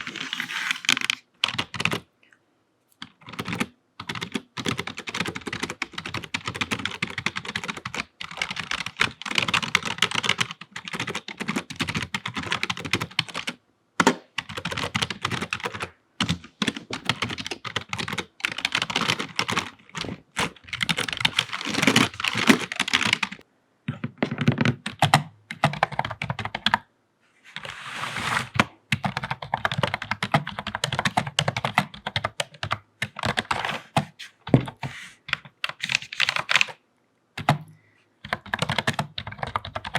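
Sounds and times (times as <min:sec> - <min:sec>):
fast typing on keyboard: 0:00.9 - 0:02.1, 0:03.0 - 0:23.4, 0:24.3 - 0:26.8, 0:28.9 - 0:34.0, 0:34.7 - 0:36.8, 0:37.4 - 0:37.6, 0:38.2 - 0:39.9.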